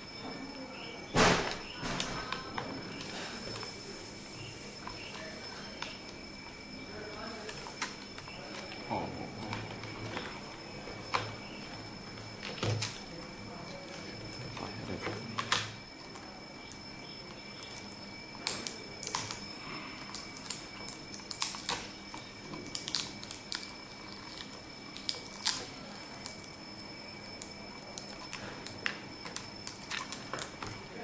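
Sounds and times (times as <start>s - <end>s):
faint high whine: 0.0s - 31.0s.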